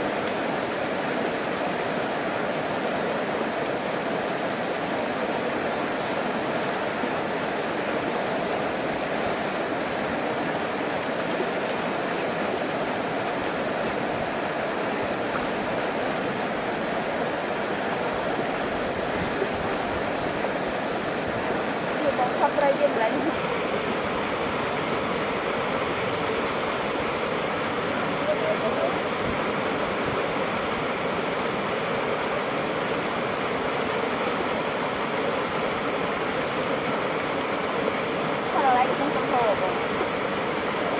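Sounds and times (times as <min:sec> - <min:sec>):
water rushing through rapids: 0:00.0 - 0:40.9.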